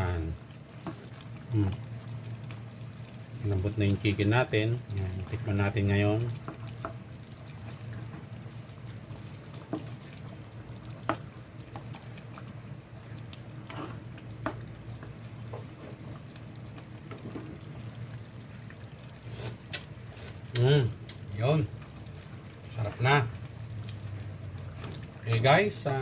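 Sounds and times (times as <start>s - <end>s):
pot simmering: 0.0s - 26.0s.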